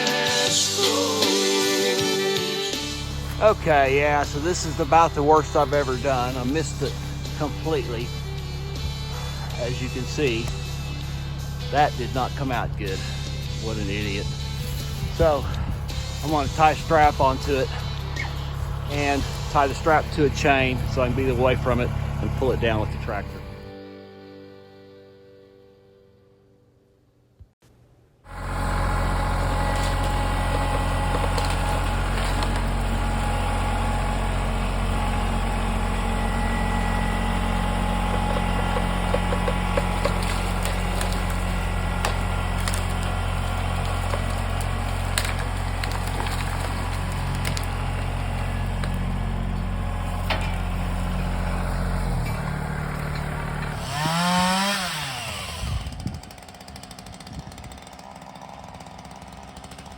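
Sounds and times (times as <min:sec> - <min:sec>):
engine running and revving: 0:02.8 - 0:23.7, 0:28.3 - 0:59.9.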